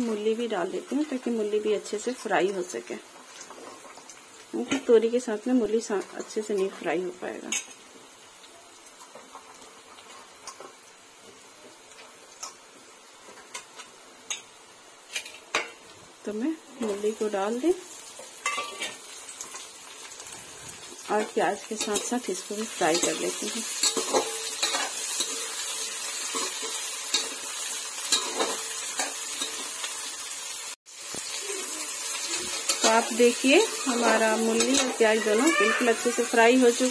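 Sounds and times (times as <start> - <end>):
food sizzling in oil: 0.0 - 36.9.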